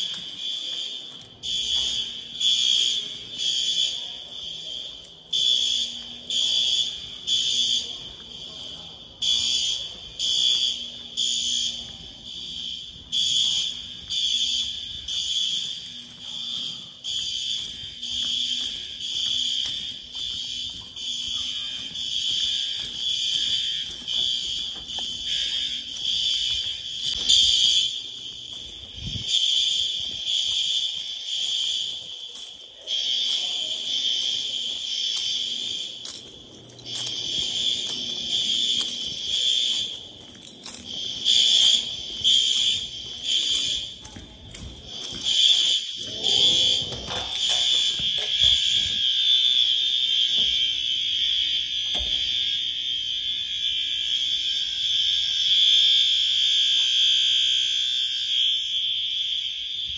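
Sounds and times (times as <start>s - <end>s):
fire alarm horns pulsing: 0.0s - 59.9s.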